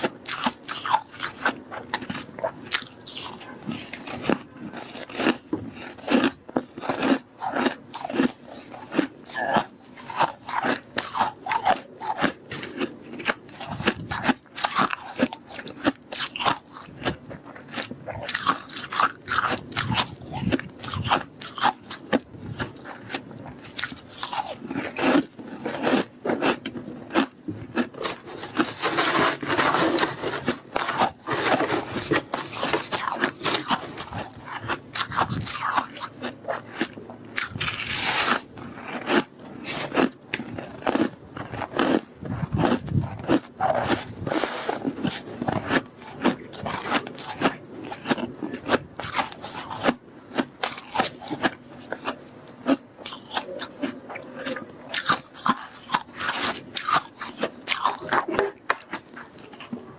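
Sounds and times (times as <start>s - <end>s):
frost being chewed crunching: 0.0s - 59.9s.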